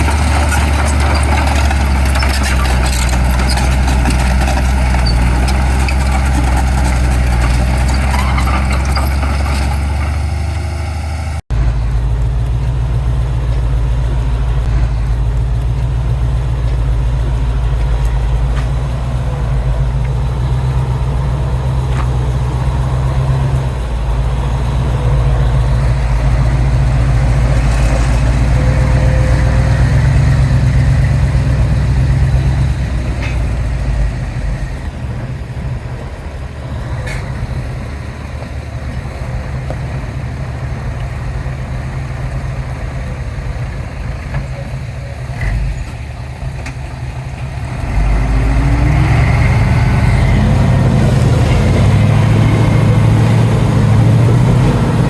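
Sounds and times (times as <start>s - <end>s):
heavy diesel engines working: 0.0s - 55.0s.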